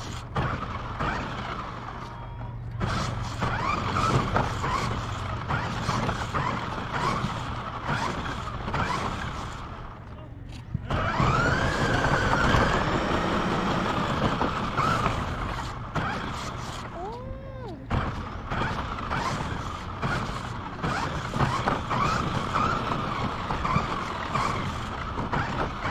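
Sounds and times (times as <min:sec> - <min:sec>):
toy car motor whine: 0:00.0 - 0:10.0, 0:10.9 - 0:25.9
tyre noise on pavement: 0:00.0 - 0:25.9.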